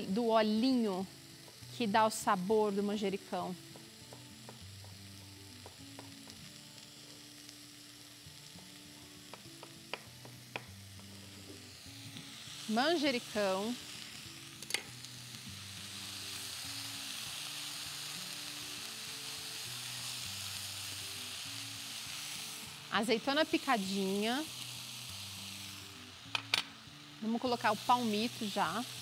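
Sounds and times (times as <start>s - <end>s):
vegetables sizzling in a saucepan: 0.0s - 29.0s.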